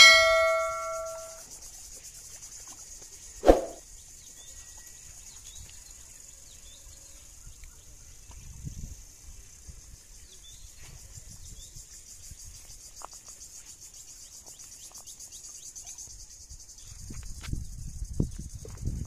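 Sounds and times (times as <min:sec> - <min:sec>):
insect chorus trilling: 0:00.0 - 0:19.0.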